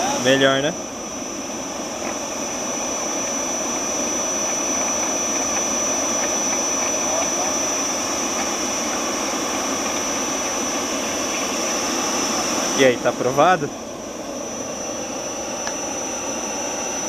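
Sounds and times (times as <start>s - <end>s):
air blower rushing and whining: 0.0s - 17.0s.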